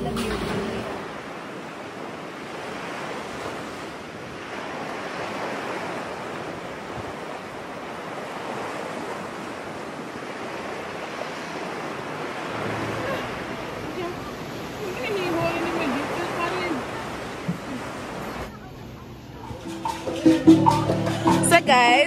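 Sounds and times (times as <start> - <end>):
small waves washing on sand: 0.0 - 18.6.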